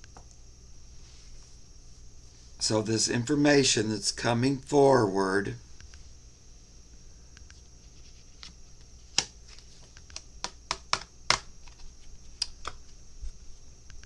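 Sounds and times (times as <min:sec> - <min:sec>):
faint high hiss: 0:00.0 - 0:14.0.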